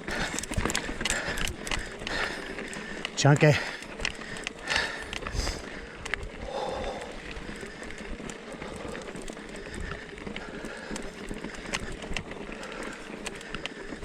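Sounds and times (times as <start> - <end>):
bike clicks and rattles: 0.0 - 14.0
bike tyres rolling on rock: 0.0 - 14.0.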